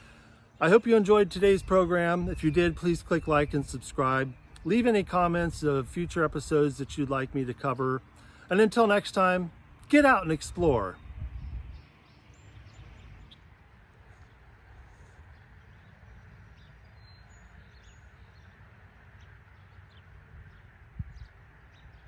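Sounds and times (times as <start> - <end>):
distant bird chirps: 0.0 - 22.0.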